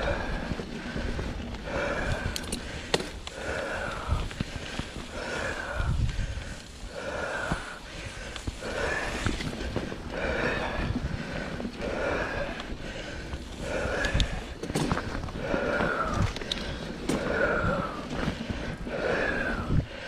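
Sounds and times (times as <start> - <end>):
person breathing hard: 0.0 - 20.0
tyres rumbling on trail: 0.0 - 20.0
bike clicks and knocks: 0.4 - 6.8, 7.4 - 18.8.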